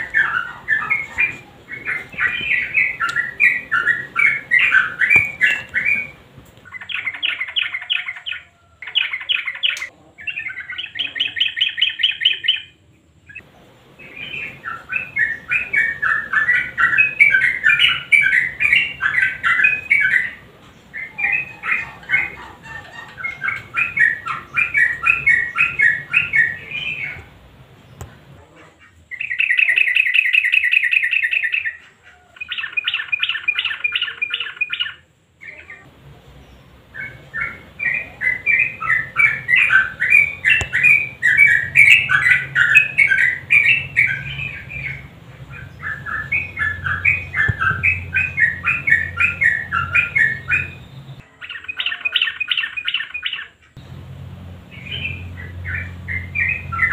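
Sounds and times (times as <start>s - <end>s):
bird chattering song: 0.0s - 56.9s.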